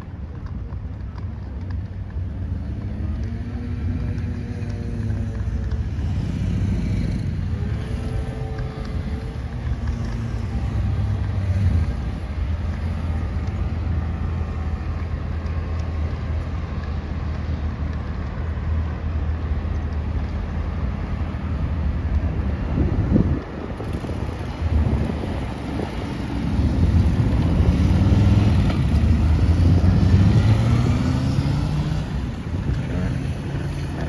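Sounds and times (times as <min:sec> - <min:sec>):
low rumble of road traffic: 0:00.0 - 0:34.0.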